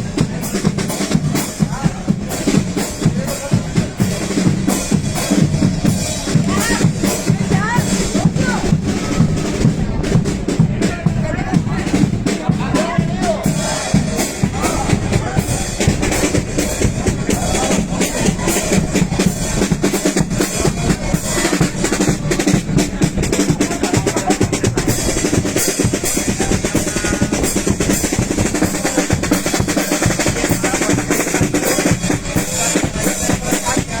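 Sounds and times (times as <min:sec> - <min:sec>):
bass drum: 0:00.0 - 0:34.0
snare drum: 0:00.0 - 0:34.0.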